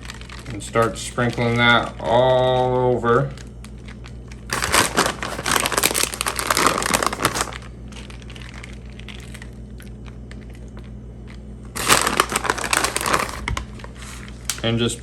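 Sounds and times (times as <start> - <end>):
plastic bag crinkling: 0.0 - 14.7
steady low hum: 0.0 - 15.0.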